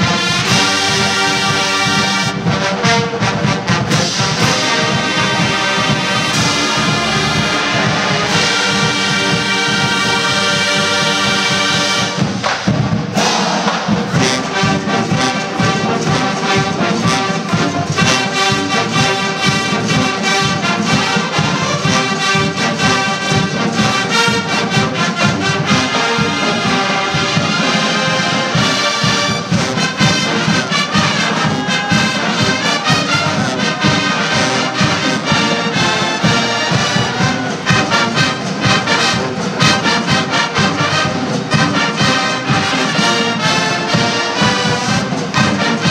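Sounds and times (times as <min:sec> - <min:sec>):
marching band brass: 0:00.0 - 0:45.9
steady drum beat: 0:00.0 - 0:45.9.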